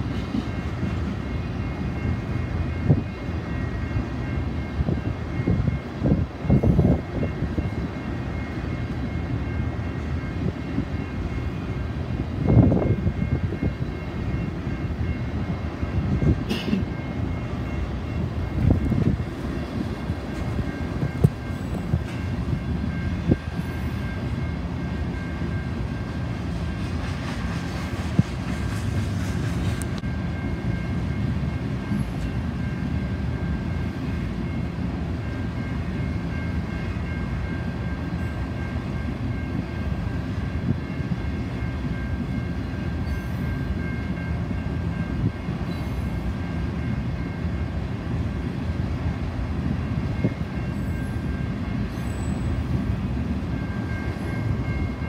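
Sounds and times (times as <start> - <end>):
crossing bell ringing: 0.0 - 28.2, 28.8 - 55.0
freight train wheels rumbling: 0.0 - 55.0
wheels clacking on rail: 0.0 - 55.0.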